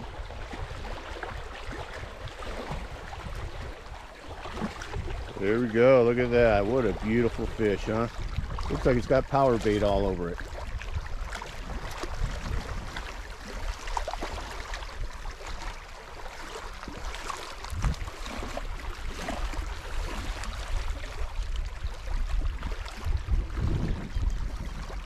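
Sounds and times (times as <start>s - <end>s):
waves lapping on rocks: 0.0s - 23.9s
wind rumble on microphone: 0.0s - 25.0s.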